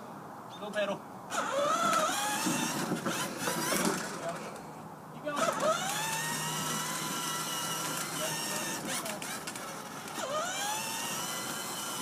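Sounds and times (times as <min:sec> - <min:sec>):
toy car electric motors whining: 0:01.3 - 0:04.4, 0:05.4 - 0:12.0.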